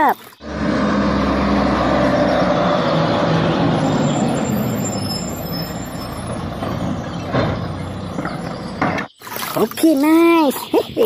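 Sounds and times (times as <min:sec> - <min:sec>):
garbage truck diesel engine: 0:00.0 - 0:09.2.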